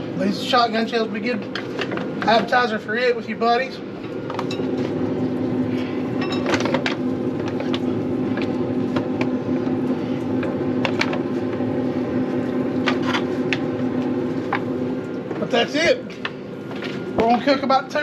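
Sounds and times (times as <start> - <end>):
grill fan humming: 0.0 - 18.0.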